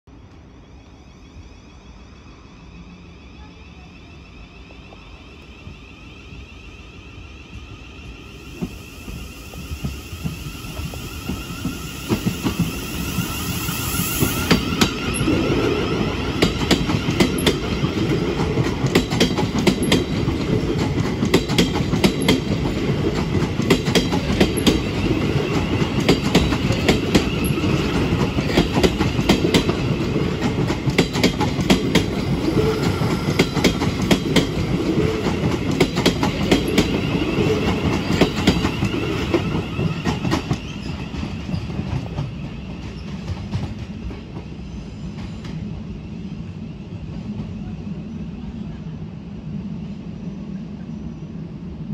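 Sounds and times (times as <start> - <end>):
train rumble: 0.2 - 51.9.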